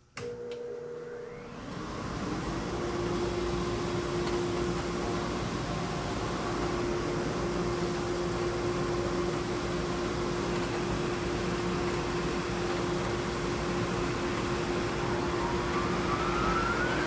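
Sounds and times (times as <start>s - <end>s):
belt sander motor whine and hum: 0.2s - 17.0s.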